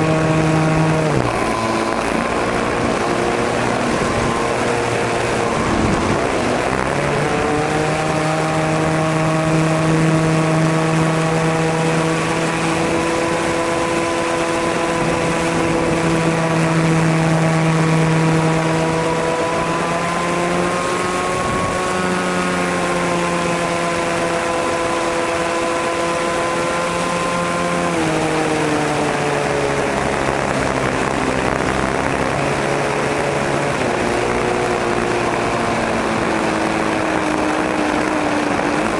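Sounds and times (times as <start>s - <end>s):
model plane engine at high revs: 0.0s - 38.9s.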